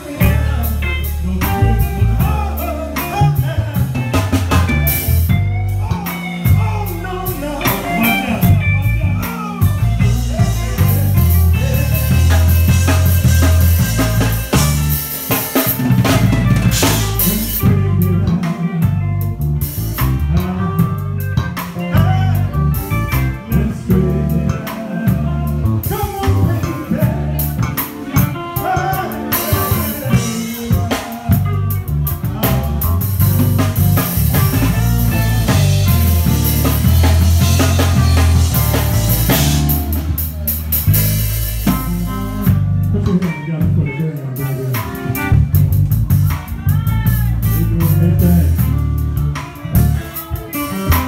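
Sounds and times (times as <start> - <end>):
drum kit beat: 0.0 - 51.0
guitar: 0.0 - 51.0
heavy bass: 0.0 - 51.0.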